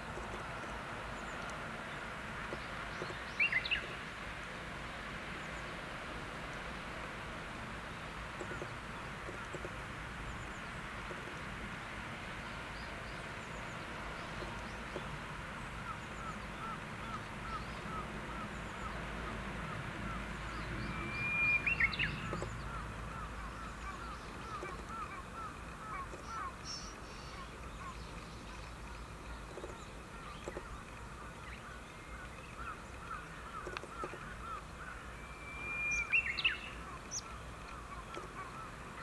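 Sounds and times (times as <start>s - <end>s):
steady low background noise: 0.0s - 39.0s.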